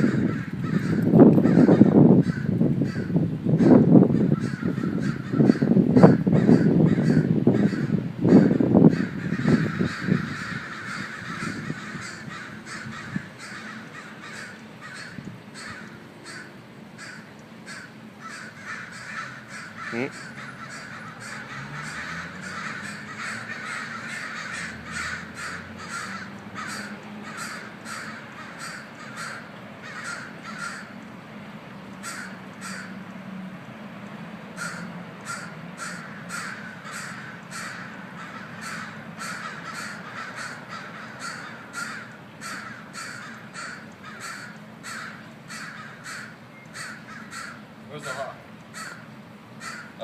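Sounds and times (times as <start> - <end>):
crows cawing: 0.0 - 31.0, 32.0 - 33.0, 34.6 - 50.0.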